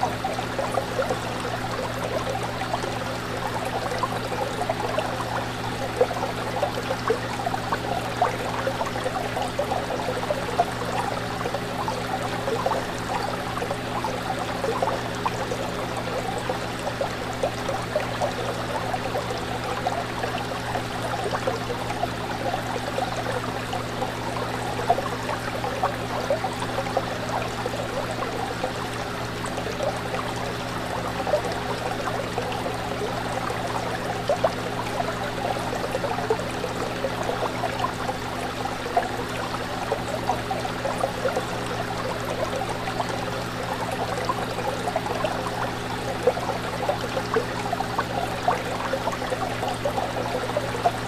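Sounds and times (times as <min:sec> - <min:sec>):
fish tank water bubbling: 0:00.0 - 0:51.0.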